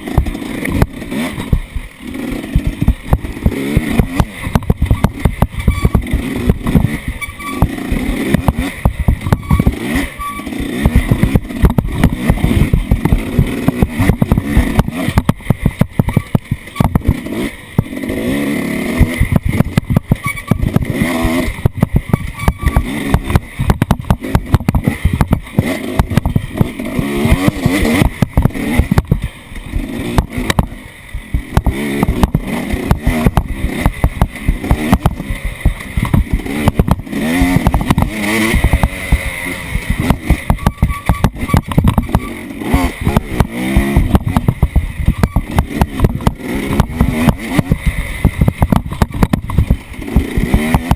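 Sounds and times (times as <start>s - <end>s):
off-road vehicle engine revving: 0.0s - 50.9s
knocks and rattles: 2.4s - 9.9s, 10.7s - 18.2s, 19.0s - 50.9s.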